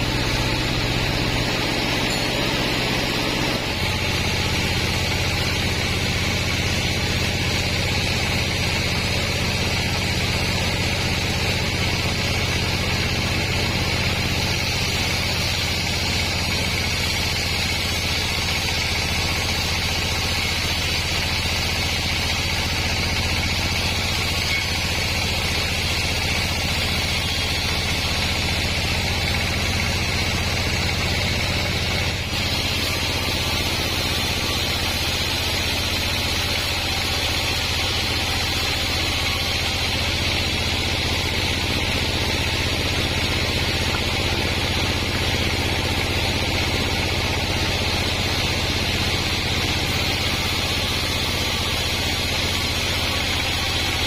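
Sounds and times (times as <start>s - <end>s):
saw blade hiss: 0.0s - 54.0s
sawmill motor hum: 0.0s - 54.0s.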